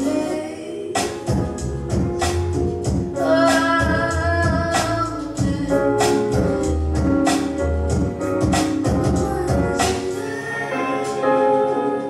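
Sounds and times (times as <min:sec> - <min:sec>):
song with singer bass and beat: 0:00.0 - 0:12.0.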